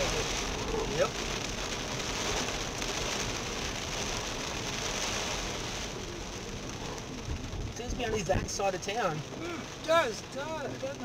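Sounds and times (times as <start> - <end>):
heavy rain on a car: 0.0 - 11.0
tyres hissing on wet road: 0.0 - 11.0.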